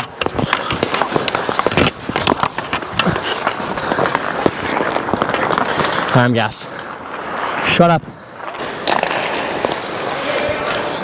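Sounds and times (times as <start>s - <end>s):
hockey sticks and puck clacking: 0.0s - 7.8s, 8.4s - 11.0s
skate blades scraping ice: 0.0s - 11.0s.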